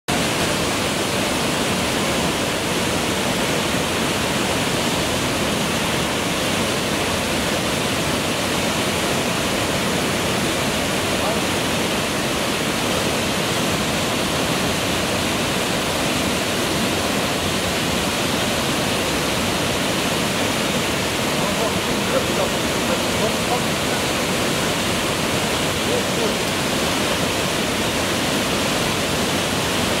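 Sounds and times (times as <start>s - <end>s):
whitewater rushing over rocks: 0.1s - 30.0s.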